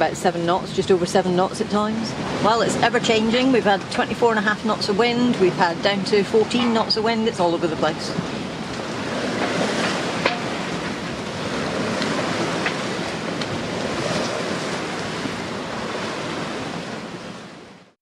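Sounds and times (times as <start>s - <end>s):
water rushing along hull: 0.0s - 18.0s
wind: 0.0s - 18.0s.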